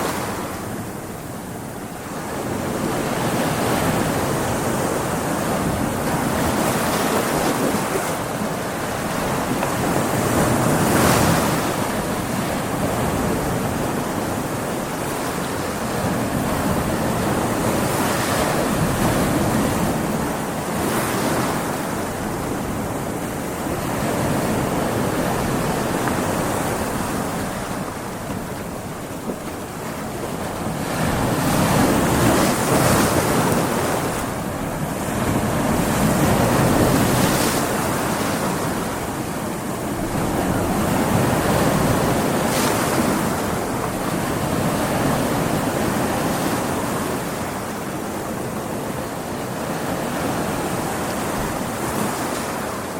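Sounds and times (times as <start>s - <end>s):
waves breaking: 0.0s - 52.9s
wind: 0.0s - 52.9s.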